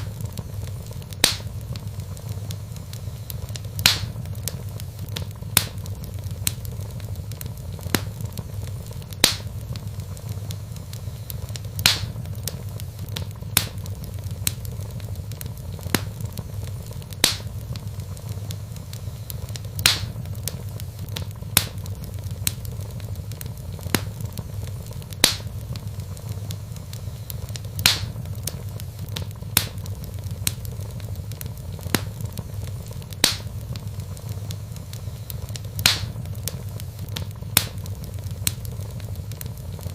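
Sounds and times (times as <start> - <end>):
fire crackles and pops: 0.0 - 39.9
logs burning in fireplace: 0.0 - 39.9.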